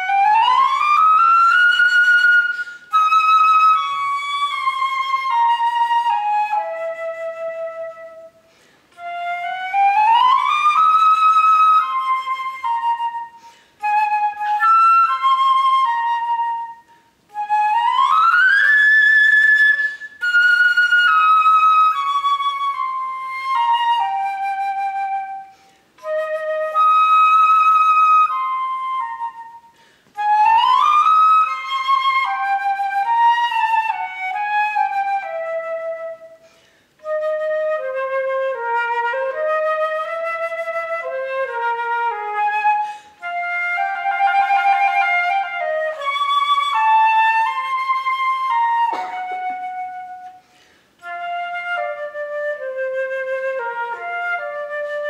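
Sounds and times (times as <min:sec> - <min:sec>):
solo flute playing: 0:00.0 - 0:55.0.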